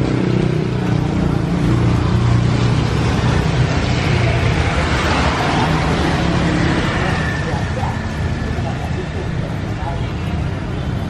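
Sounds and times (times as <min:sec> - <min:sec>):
street traffic engine rumble: 0:00.0 - 0:11.0.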